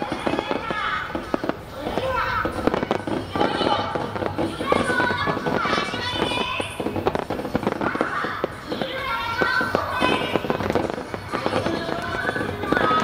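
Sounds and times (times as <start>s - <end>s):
firework shells bursting: 0.0s - 13.0s
music playing: 0.0s - 13.0s.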